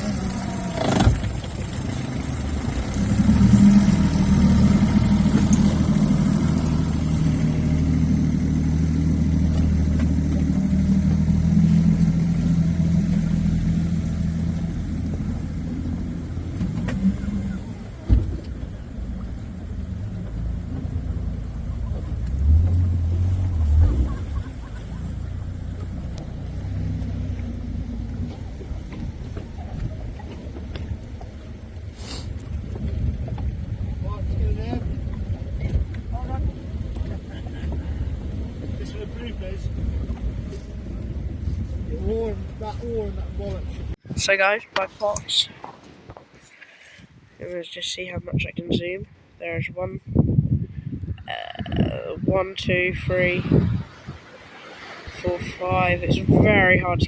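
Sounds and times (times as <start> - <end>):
engine low rumble: 0.0 - 57.0.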